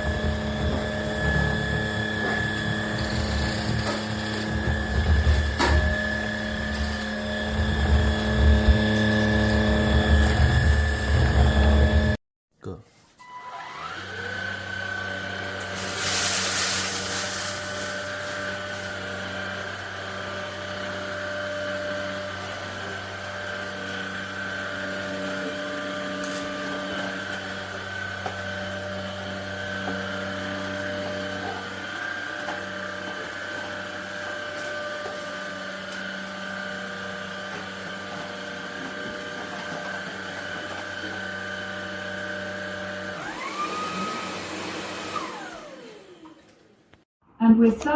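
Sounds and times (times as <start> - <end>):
stick vacuum motor whining: 0.0 - 12.2, 13.3 - 47.0.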